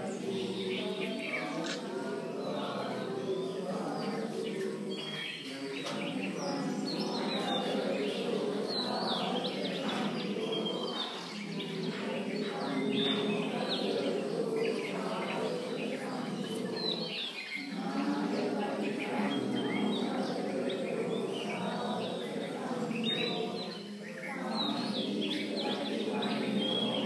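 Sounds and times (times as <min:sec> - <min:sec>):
group of voices chanting: 0:00.0 - 0:27.0.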